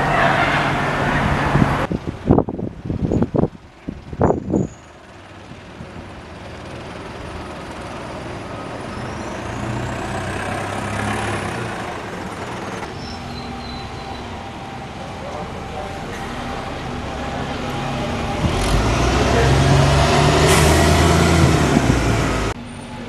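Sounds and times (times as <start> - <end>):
bus engine driving past: 0.0 - 23.0.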